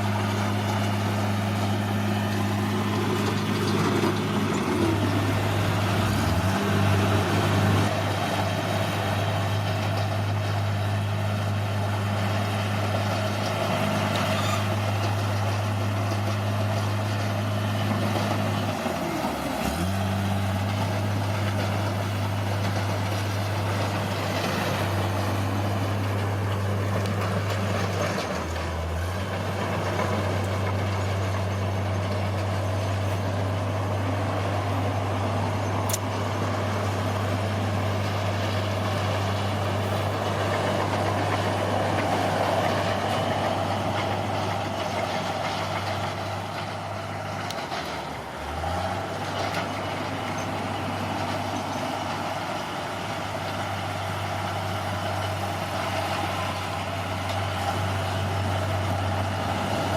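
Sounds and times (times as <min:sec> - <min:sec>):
bulldozer diesel engine humming: 0:00.0 - 0:59.9.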